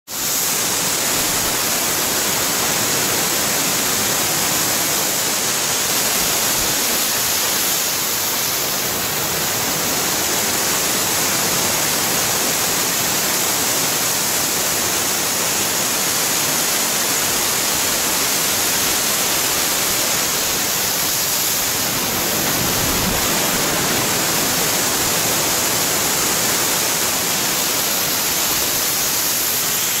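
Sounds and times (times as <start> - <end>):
waterfall rushing over rocks: 0.1 - 30.0.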